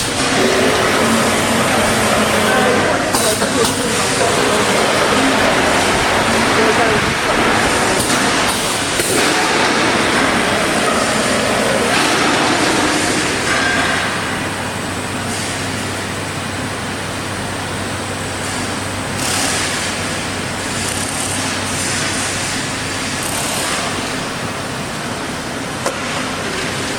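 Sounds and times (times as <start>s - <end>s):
welding machine noise: 0.0s - 26.9s.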